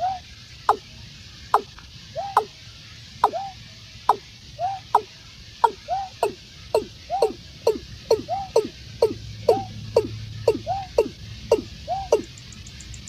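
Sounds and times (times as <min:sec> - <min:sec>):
watercock bird calling: 0:00.0 - 0:13.0.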